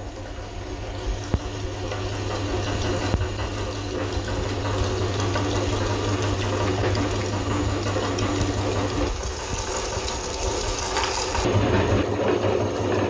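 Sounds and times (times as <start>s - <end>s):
electric meat grinder motor hum: 0.0s - 13.0s.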